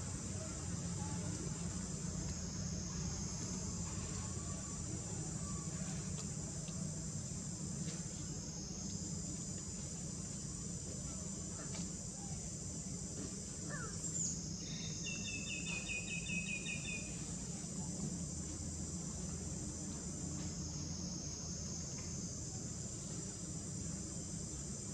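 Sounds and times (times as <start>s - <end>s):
high-pitched insect chorus: 0.1s - 24.9s.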